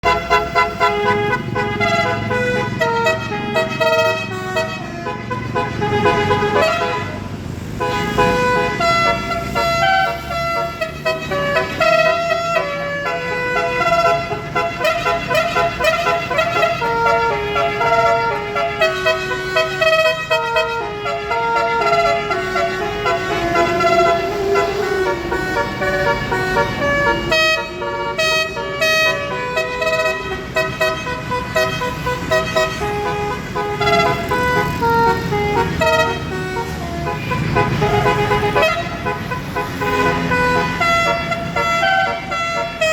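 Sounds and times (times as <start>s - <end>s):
multi-tone air horn melody: 0.0s - 42.9s.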